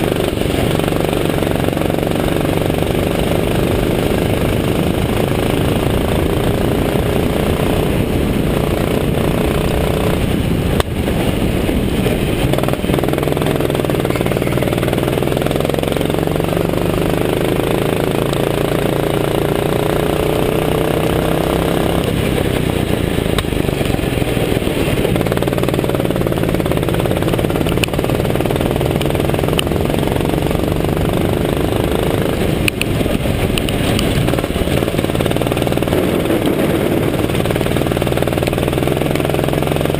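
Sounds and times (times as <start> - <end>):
go-kart engine revving: 0.0 - 39.9
wind noise: 0.0 - 39.9.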